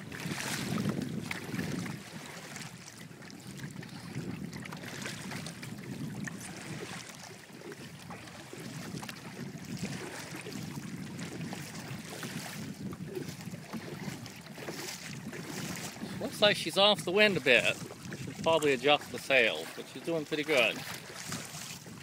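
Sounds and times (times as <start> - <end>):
wind on microphone: 0.0 - 19.9, 20.7 - 22.0
water lapping against a hull: 0.0 - 22.0.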